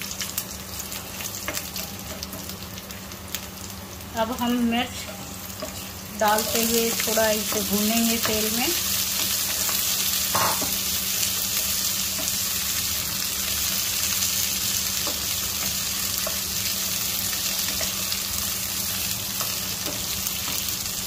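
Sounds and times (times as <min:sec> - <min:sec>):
chillies sizzling in oil: 0:00.0 - 0:21.0.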